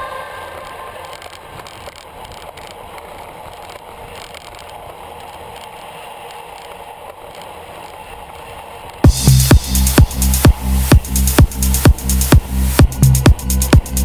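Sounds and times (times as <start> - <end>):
bicycle road noise: 0.0 - 14.0.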